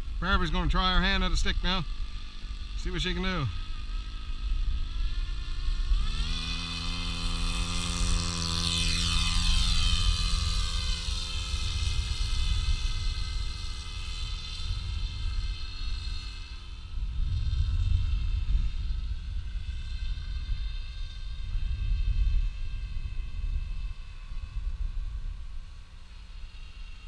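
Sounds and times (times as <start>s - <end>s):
model aircraft motor droning: 0.0s - 27.0s.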